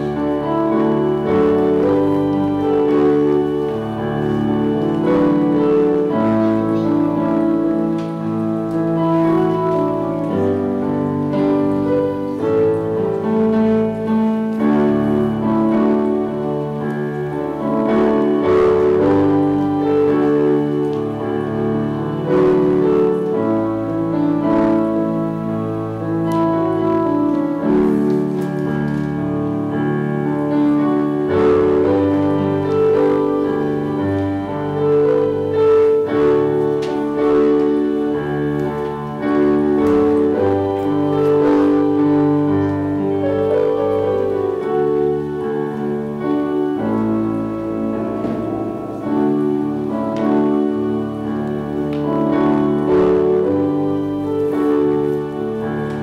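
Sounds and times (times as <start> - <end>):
slow keyboard music: 0.0 - 56.0.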